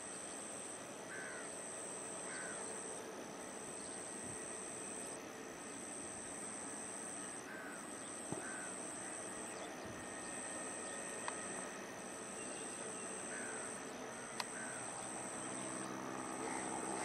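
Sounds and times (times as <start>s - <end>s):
insects buzzing: 0.0s - 17.0s
jet engine low hum: 0.0s - 17.0s.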